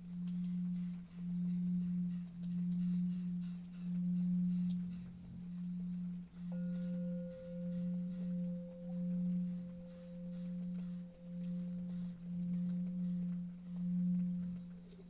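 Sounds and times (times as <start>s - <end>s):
low drone: 0.0s - 15.0s.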